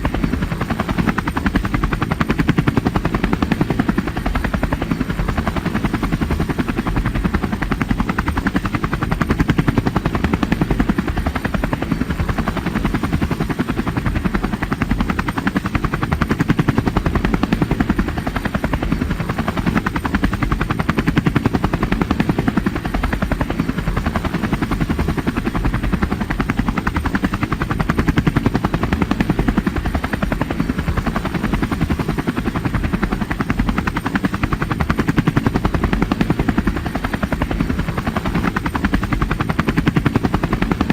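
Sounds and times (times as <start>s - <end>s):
helicopter rotor blades chopping: 0.0s - 40.9s.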